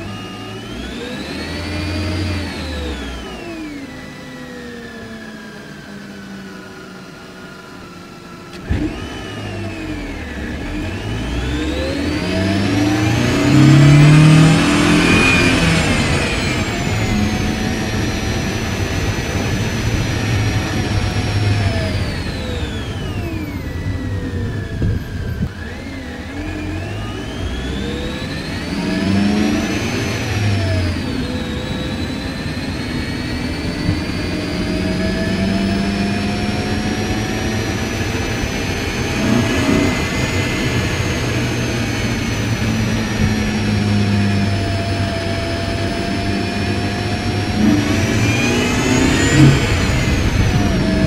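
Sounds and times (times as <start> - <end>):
car engine accelerating: 0.0 - 51.0
supercharger whine: 0.0 - 51.0.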